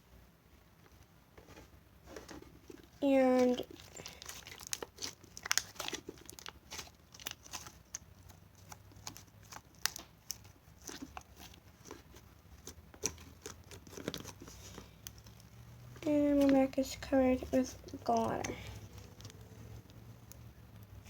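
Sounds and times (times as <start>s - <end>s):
sticky slime clicks and crackles: 3.1s - 15.6s, 16.3s - 20.9s.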